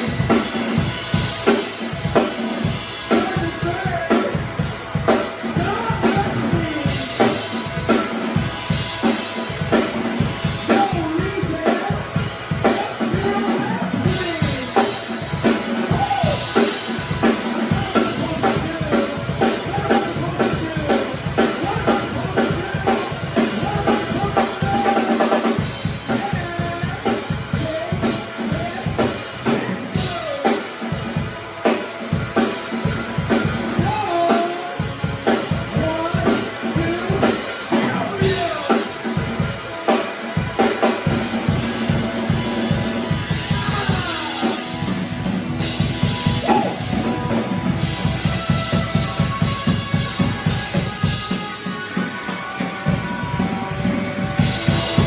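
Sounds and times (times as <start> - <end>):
drum kit beat: 0.0 - 55.0
live band playing: 0.0 - 55.0.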